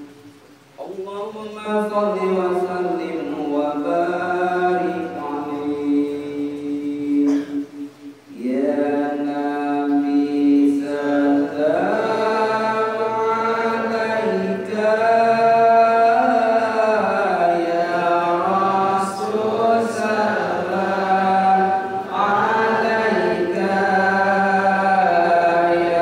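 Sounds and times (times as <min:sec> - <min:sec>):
man chanting into a microphone: 0:00.8 - 0:26.0.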